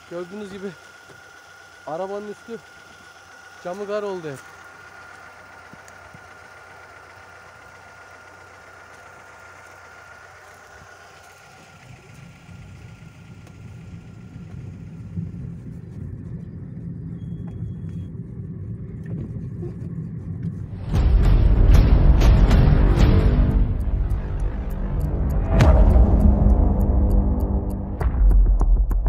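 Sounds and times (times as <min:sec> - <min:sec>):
car engine idling: 0:00.0 - 0:28.0
car rumbling as it moves off: 0:04.3 - 0:28.1.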